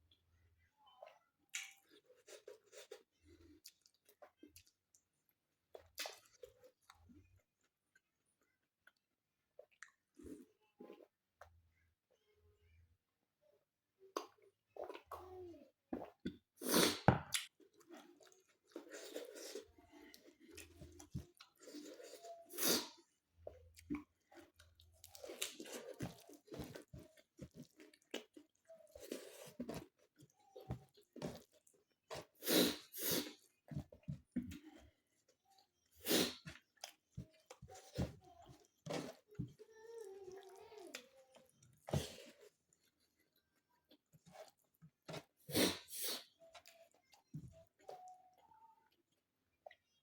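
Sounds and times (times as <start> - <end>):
person chewing food: 1.5 - 11.6, 16.0 - 48.4.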